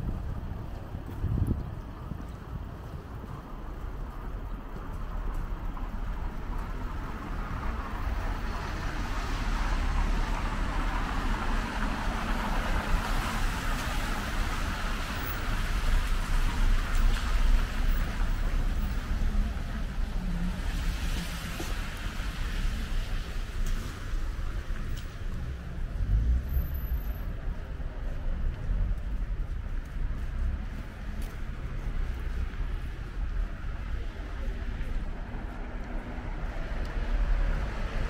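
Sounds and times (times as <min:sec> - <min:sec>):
cars passing: 0:00.0 - 0:38.0
low city rumble: 0:00.0 - 0:38.0.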